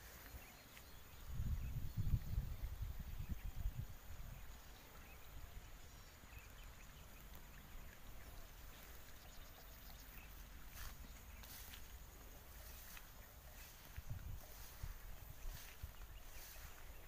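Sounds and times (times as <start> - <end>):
faint high chirps: 0.0 - 17.0
wind rumble on microphone: 1.0 - 11.9, 12.6 - 17.0.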